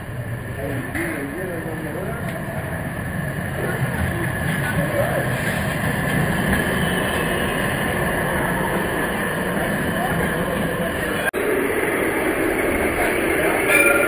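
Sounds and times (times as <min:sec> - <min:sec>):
street noise: 0:00.0 - 0:14.0
tram rumbling on rails: 0:00.0 - 0:14.0.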